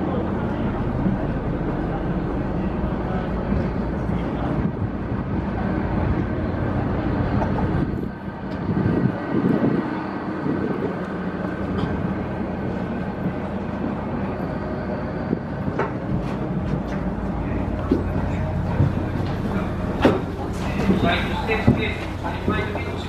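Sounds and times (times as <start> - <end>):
louder rumble: 0.0 - 23.0
low machinery hum: 0.0 - 23.0
wind buffeting microphone: 0.0 - 23.0.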